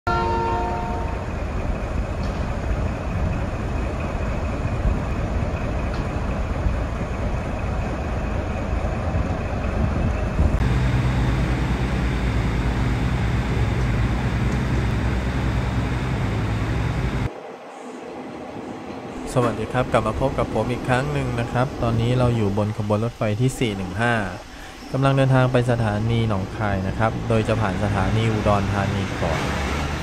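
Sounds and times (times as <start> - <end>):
low engine drone: 0.1 - 30.0
train rumbling and rattling: 0.1 - 30.0.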